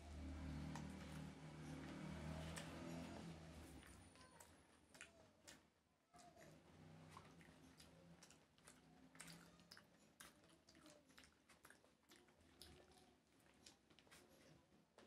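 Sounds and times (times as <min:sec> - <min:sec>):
person chewing rice: 0:00.5 - 0:15.0.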